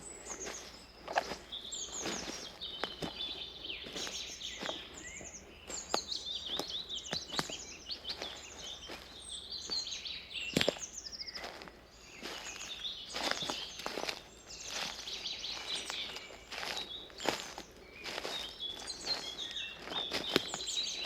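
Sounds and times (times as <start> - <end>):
footsteps on forest path: 0.0 - 21.0
songbirds singing: 0.0 - 21.0.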